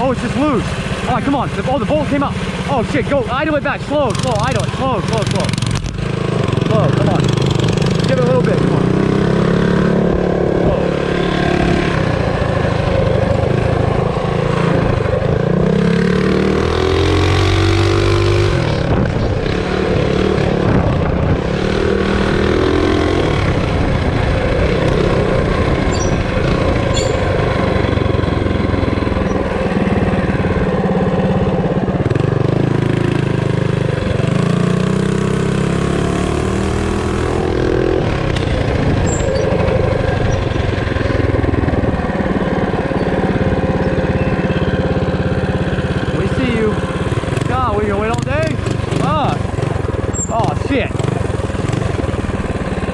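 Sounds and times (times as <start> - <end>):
minibike engine revving: 0.0 - 52.9.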